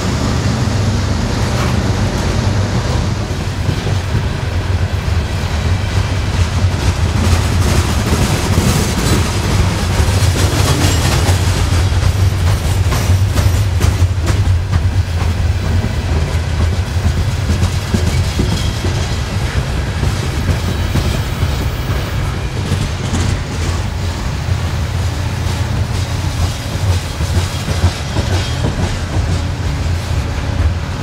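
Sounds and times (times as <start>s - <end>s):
train wheels clickety-clack: 0.0s - 31.0s
train wheels rumbling: 0.0s - 31.0s.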